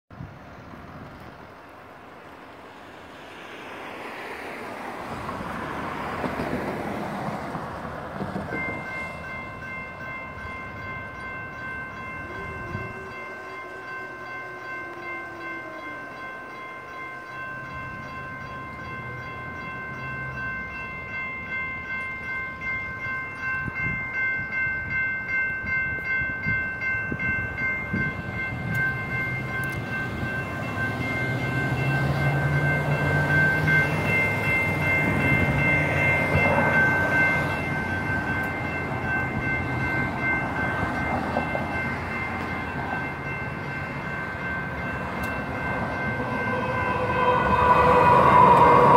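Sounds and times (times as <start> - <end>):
train rumble: 0.1 - 48.9
railroad crossing bells ringing: 0.2 - 48.9.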